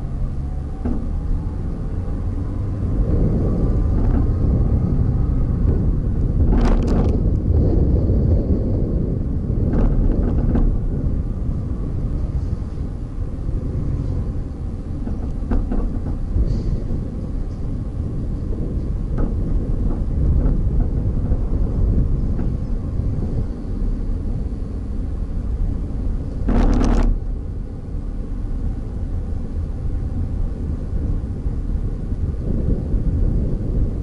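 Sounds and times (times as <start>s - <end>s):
vehicle rumbling along road: 0.0s - 34.0s.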